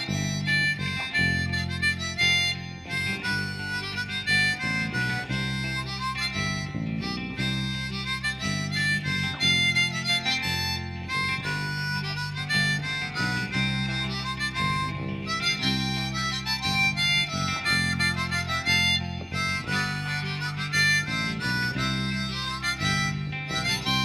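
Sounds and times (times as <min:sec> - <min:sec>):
harmonica lead: 0:00.0 - 0:24.0
steady low rhythm: 0:00.0 - 0:24.0.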